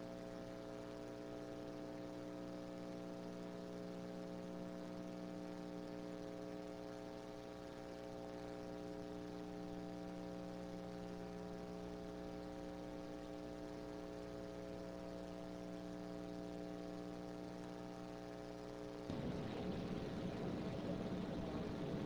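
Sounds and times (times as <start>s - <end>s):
faint mains hum: 0.0s - 22.0s.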